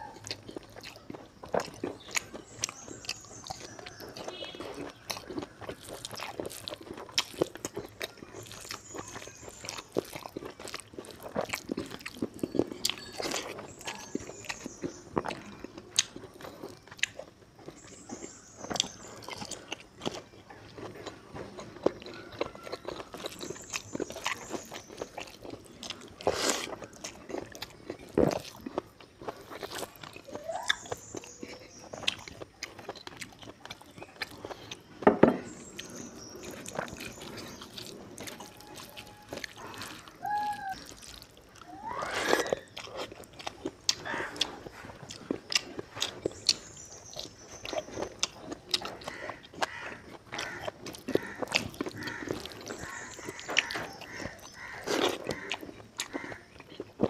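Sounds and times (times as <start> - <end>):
chewing with wet lip smacks: 0.0 - 57.0.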